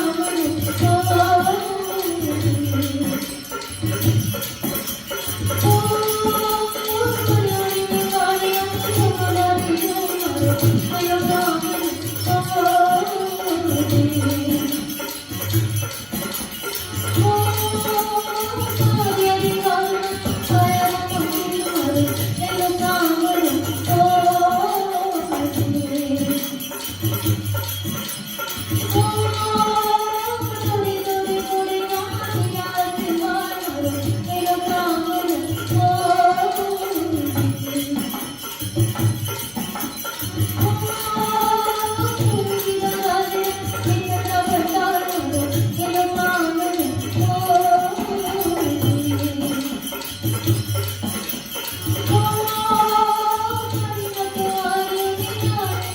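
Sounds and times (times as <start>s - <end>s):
jingling percussion: 0.0s - 55.9s.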